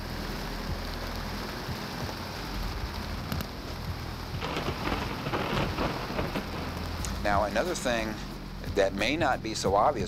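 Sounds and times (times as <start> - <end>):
low rumble: 0.0 - 9.6
steady rain hiss: 0.0 - 10.0.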